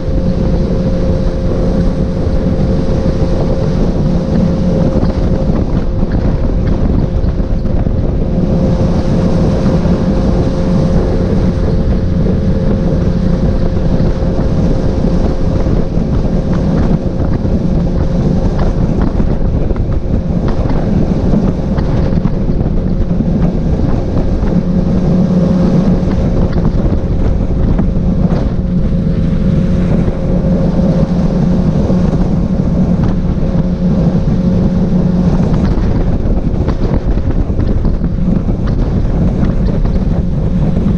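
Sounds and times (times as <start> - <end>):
outboard motor running: 0.0 - 40.9
water rushing past hull: 0.0 - 40.9
wind buffeting microphone: 0.0 - 40.9.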